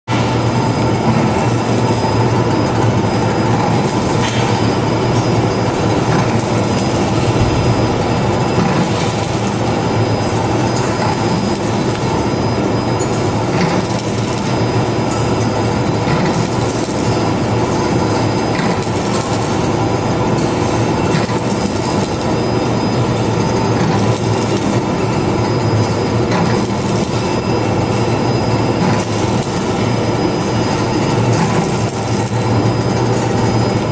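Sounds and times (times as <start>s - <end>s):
machine running with low hum: 0.1s - 33.9s.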